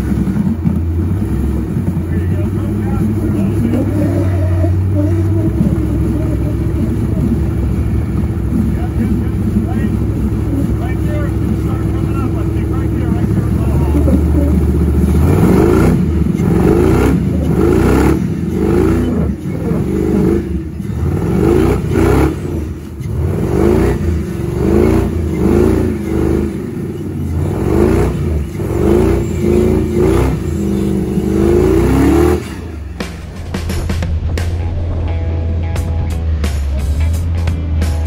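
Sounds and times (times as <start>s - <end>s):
buggy engine revving: 0.0s - 38.0s.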